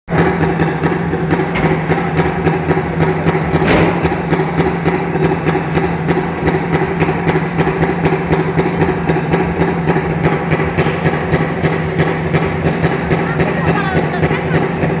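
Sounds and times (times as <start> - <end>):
motorcycle engine idling: 0.1 - 15.0.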